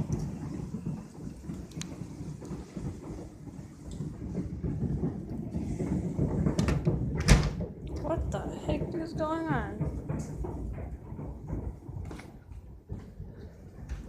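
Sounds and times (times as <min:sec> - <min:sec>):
low rumbling on roof: 0:00.0 - 0:14.0.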